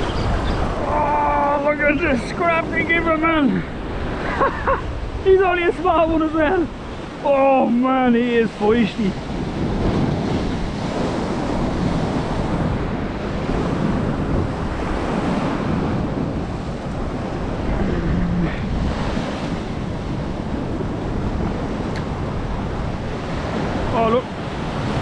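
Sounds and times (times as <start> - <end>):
surf washing against rocks: 0.0 - 25.0
wind buffeting microphone: 0.0 - 25.0.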